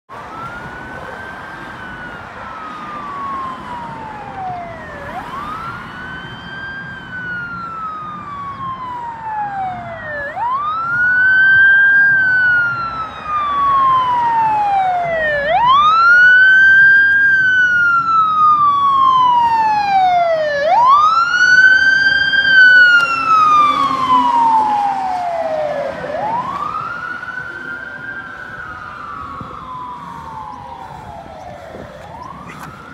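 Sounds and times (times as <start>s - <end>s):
fire engine siren wailing: 0.1s - 32.9s
street traffic: 0.1s - 32.9s.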